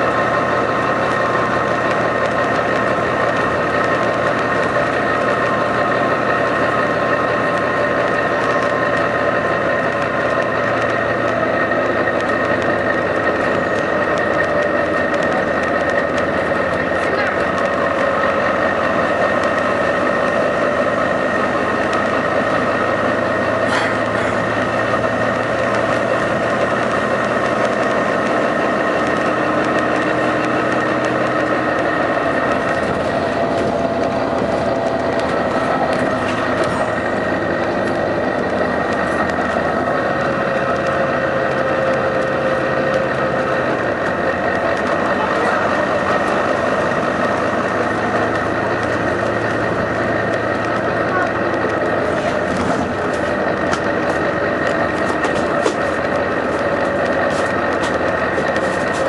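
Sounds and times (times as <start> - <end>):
diesel bus engine running: 0.0 - 59.0.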